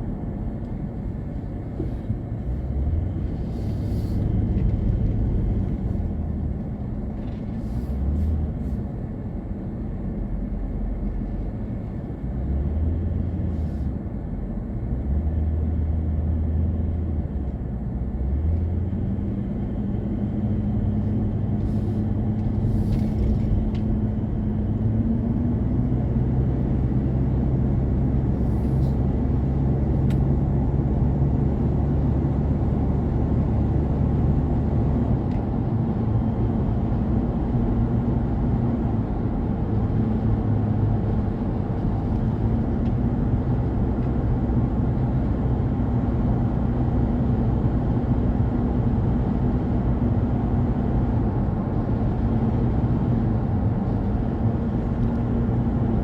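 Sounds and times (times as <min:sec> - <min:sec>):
car engine hum: 0:00.0 - 0:56.0
road and tyre rumble: 0:00.0 - 0:56.0.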